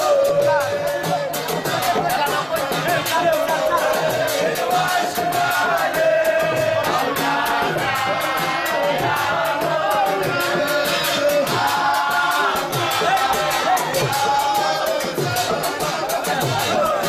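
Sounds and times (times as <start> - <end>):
fast percussive beat: 0.0 - 17.0
group of voices chanting: 0.0 - 17.0.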